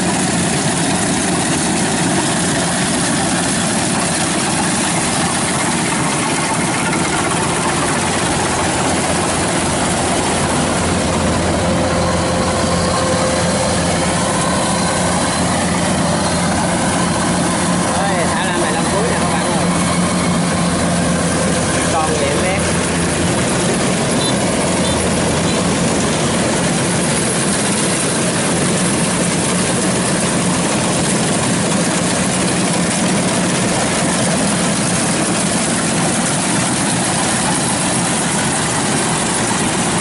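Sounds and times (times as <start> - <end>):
combine harvester engine drone: 0.0 - 40.0.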